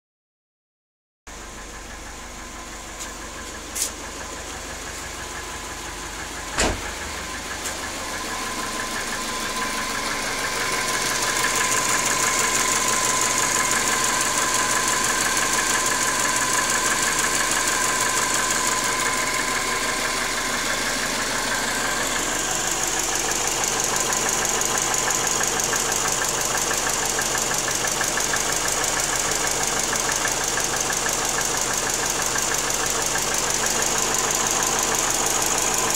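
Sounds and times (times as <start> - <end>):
cold car engine knocking: 1.4 - 35.9.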